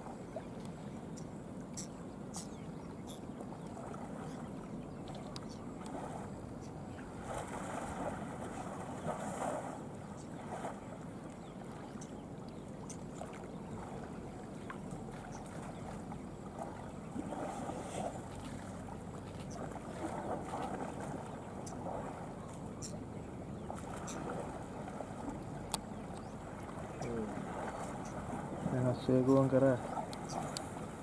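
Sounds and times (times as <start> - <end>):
low rumble of wind: 0.0 - 31.0
water sloshing and splashing: 0.0 - 31.0.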